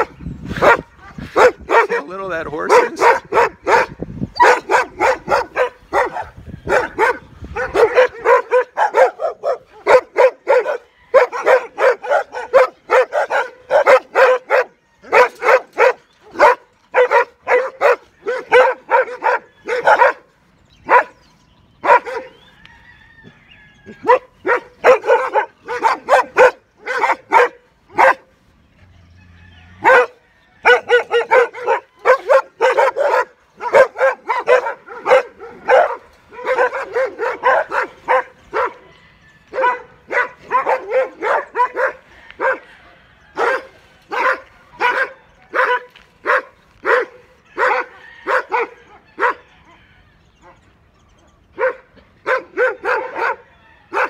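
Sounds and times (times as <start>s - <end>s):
large dogs barking: 0.0s - 22.5s, 23.8s - 54.0s.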